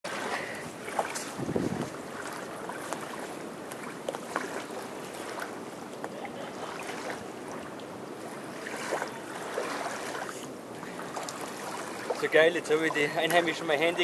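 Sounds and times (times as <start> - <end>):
moving water: 0.0 - 14.0
light wind: 0.1 - 14.0.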